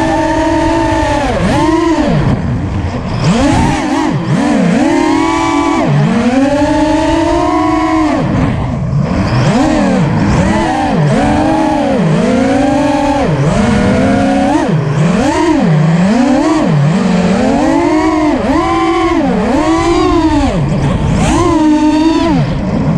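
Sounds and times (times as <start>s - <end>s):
drone propellers buzzing whine: 0.0s - 22.9s.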